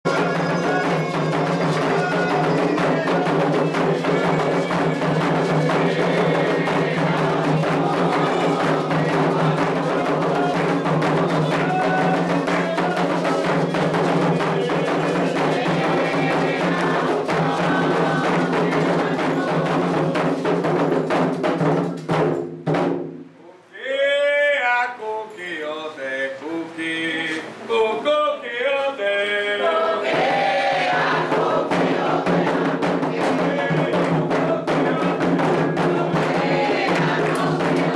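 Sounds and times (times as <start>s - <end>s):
hand drums fast rhythm: 0.0s - 23.1s, 30.0s - 37.9s.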